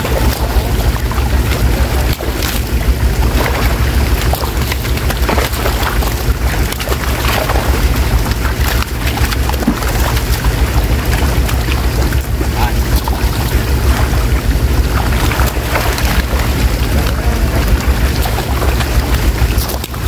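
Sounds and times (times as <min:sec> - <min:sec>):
fish splashing in water: 0:00.0 - 0:20.0
low rumble: 0:00.0 - 0:20.0.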